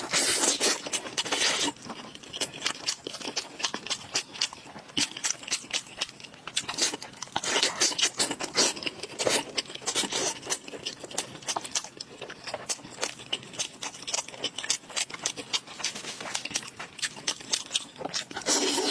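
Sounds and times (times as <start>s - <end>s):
chewing and biting: 0.0s - 18.9s
crackly clicks and smacks: 0.5s - 18.9s.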